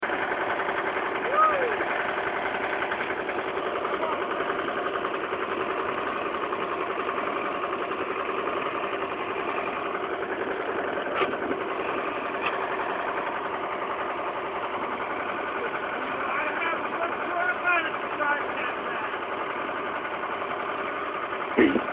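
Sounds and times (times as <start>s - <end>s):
tractor engine idling: 0.0s - 21.9s.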